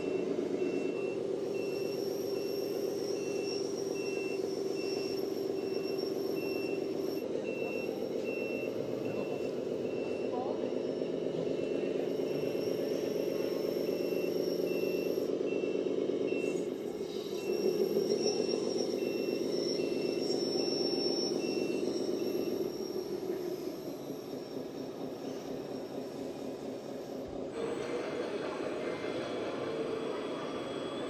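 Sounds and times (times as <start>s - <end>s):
faint high whine: 0.0s - 28.0s
reversing beeper: 0.0s - 31.0s
simulated diesel engine running: 0.0s - 31.0s.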